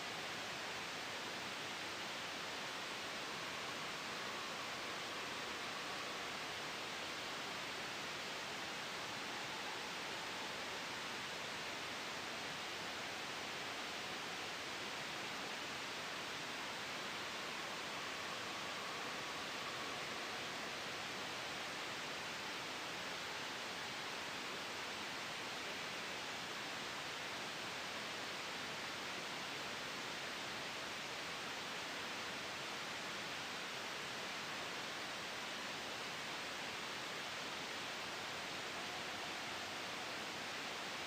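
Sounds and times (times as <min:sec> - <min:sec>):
gentle wind: 0:00.0 - 0:41.0
white noise hiss: 0:00.0 - 0:41.0.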